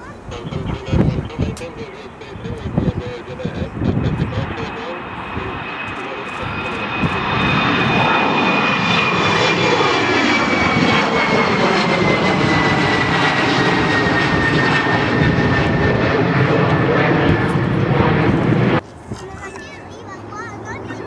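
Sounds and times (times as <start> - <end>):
airliner engines roaring: 0.0 - 21.0
high jet engine whine: 0.0 - 21.0.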